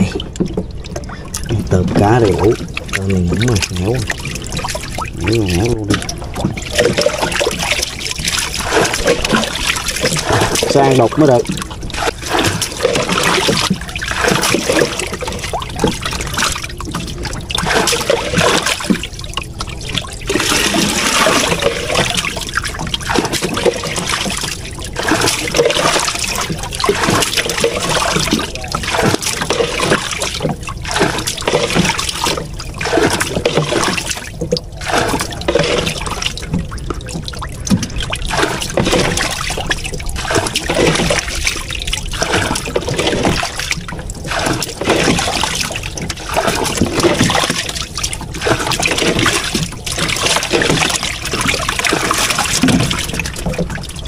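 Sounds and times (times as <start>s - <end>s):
water scooping and pouring: 0.0s - 54.0s.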